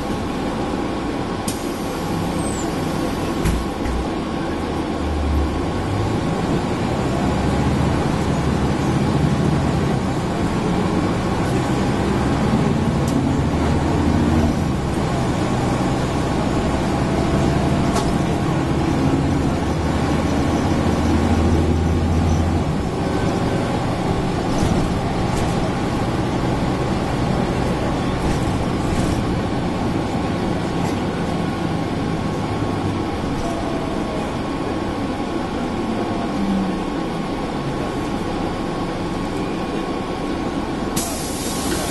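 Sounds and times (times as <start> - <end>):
bus engine pulling: 0.0 - 41.9.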